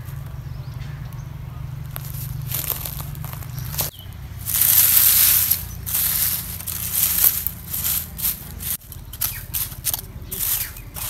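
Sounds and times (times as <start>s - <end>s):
leaves and twigs crunching: 1.8s - 11.0s.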